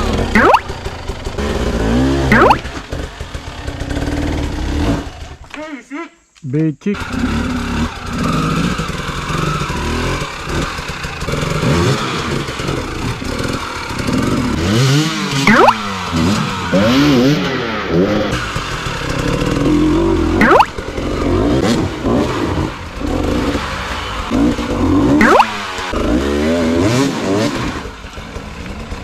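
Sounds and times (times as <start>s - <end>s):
dirt bike engine revving: 0.0s - 5.4s, 7.0s - 29.0s.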